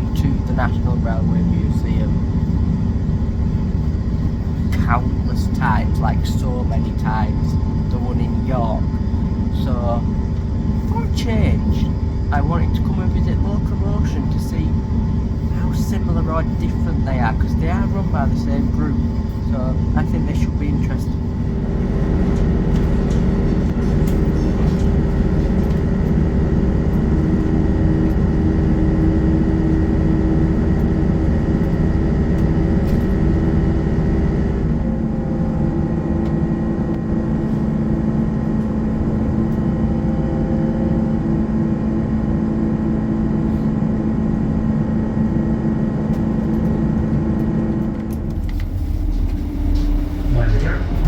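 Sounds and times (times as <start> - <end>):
train engine drone: 0.0 - 51.0
train rumbling running noise: 0.0 - 51.0.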